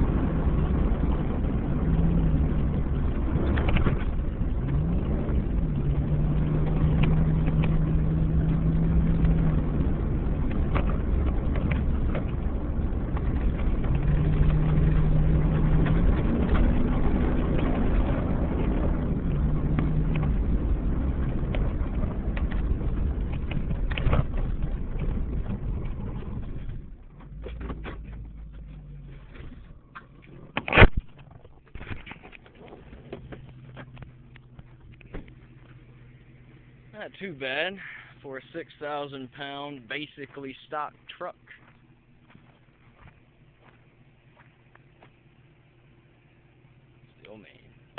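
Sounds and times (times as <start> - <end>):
truck engine pulling hard: 0.0 - 47.9
tyres on gravel: 0.0 - 47.9.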